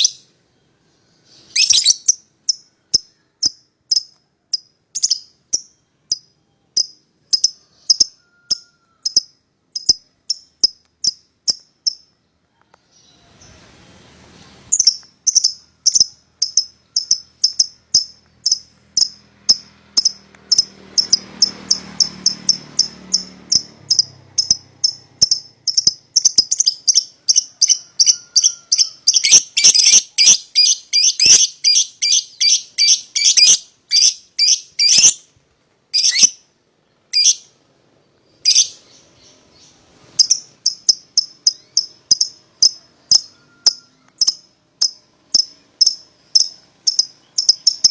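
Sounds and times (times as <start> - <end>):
lovebirds chirping: 0.0 - 13.8, 14.4 - 35.3, 35.9 - 47.9.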